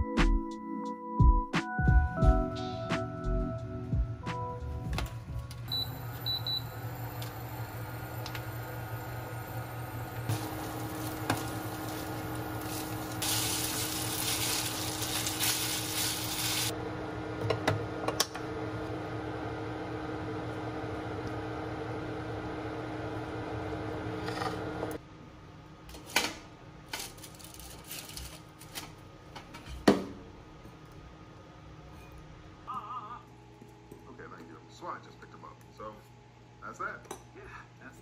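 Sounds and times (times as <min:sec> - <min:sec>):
induction cooktop humming: 0:04.1 - 0:38.0.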